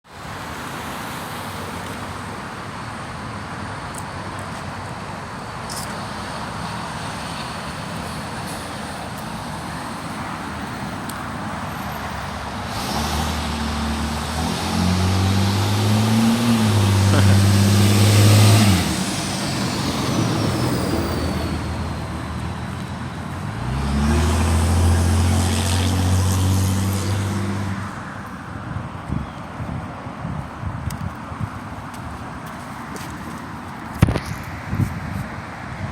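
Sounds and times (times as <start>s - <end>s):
steady traffic noise: 0.0s - 35.9s
motor vehicles passing: 4.2s - 35.8s.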